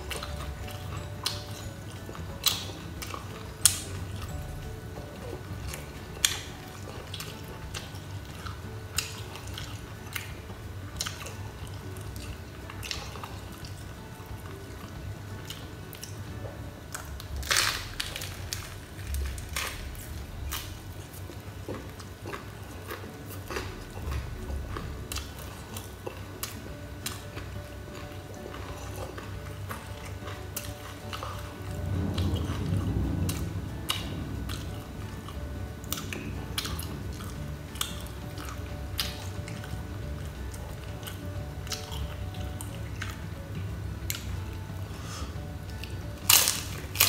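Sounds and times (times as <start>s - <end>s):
person chewing and crunching: 0.0s - 47.0s.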